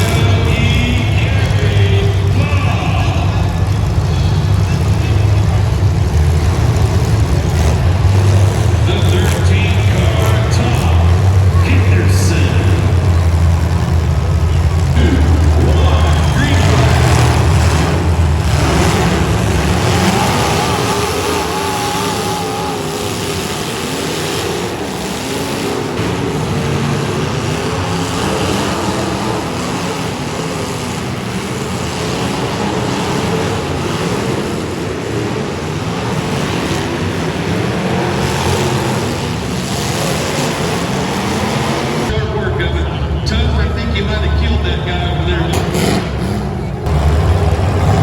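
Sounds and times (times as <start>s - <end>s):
loud car engines revving: 0.0s - 48.0s.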